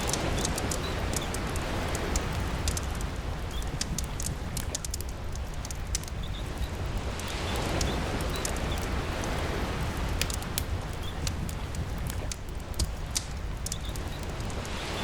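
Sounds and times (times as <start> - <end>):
sea surf waves: 0.0 - 4.8, 6.6 - 12.2, 13.0 - 15.0
campfire crackling: 0.0 - 15.0
steady rain: 0.0 - 15.0.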